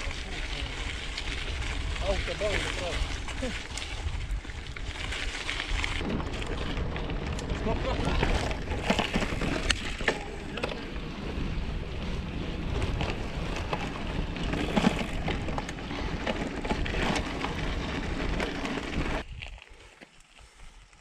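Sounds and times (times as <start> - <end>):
bike rattling and knocking: 0.0 - 19.2
wind buffeting microphone: 0.0 - 19.6.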